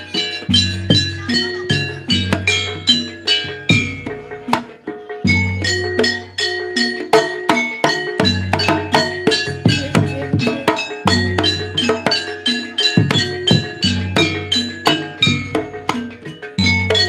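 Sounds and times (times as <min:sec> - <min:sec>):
metallophones and gong-chimes ringing: 0:00.0 - 0:17.0.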